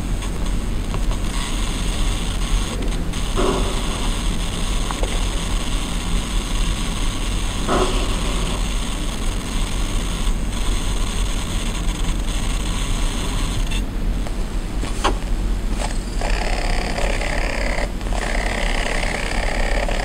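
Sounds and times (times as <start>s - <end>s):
laptop coil whine buzz and hiss: 0.0s - 20.0s.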